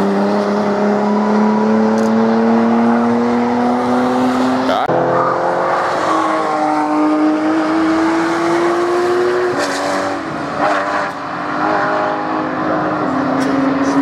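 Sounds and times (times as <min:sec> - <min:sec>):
sports car engine revving: 0:00.0 - 0:14.0.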